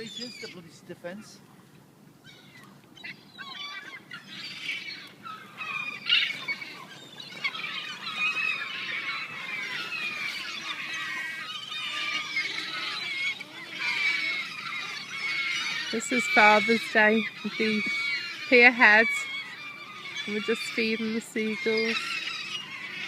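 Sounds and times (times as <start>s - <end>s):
seagulls calling: 0.0s - 1.4s, 2.2s - 23.0s.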